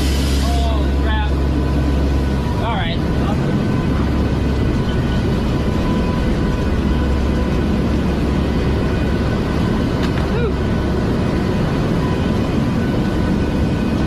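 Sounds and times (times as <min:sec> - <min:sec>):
aircraft cabin engine drone: 0:00.0 - 0:14.0.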